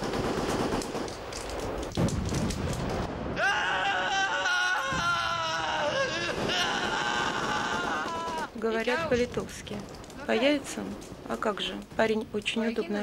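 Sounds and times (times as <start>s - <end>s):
crackling battle din: 0.0s - 13.0s.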